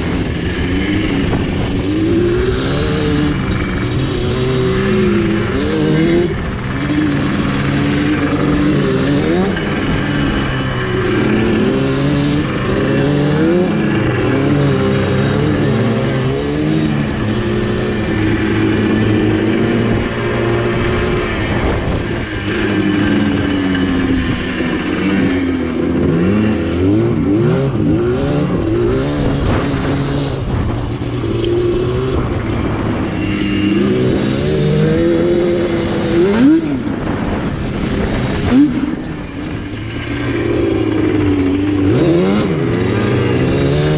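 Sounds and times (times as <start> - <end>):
two-stroke engine revving: 0.0 - 43.9.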